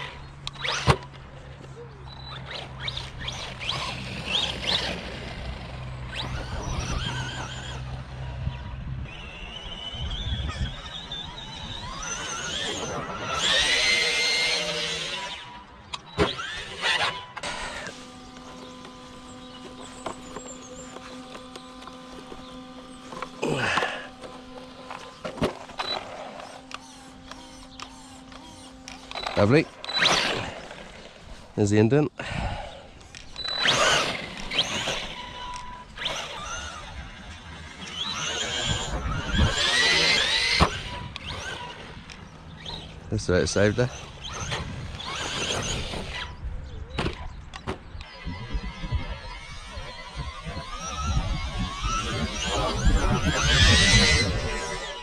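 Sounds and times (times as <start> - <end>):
electric motor whining: 0.0 - 55.0
steady low hum: 0.0 - 55.0.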